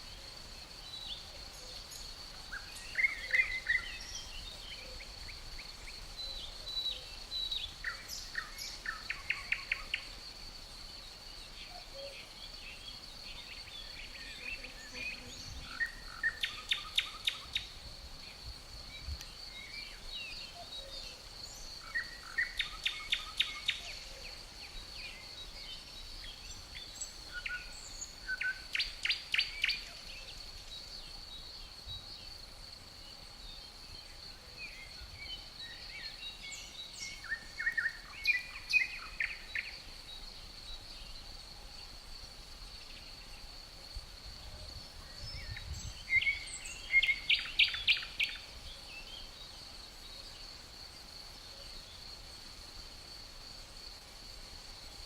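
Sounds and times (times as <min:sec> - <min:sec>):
crickets chirring: 0:00.0 - 0:55.0
songbird singing: 0:00.0 - 0:55.0.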